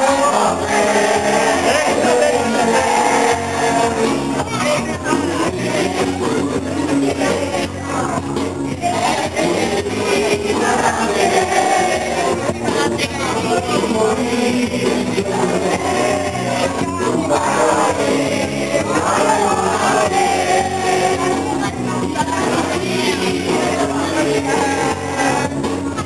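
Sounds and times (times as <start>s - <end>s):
person singing: 0.0s - 26.0s.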